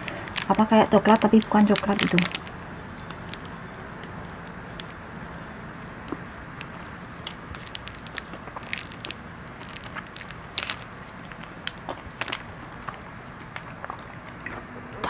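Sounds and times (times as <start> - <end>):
microphone hiss: 0.0 - 15.0
mouth chewing wet clicks: 0.0 - 15.0.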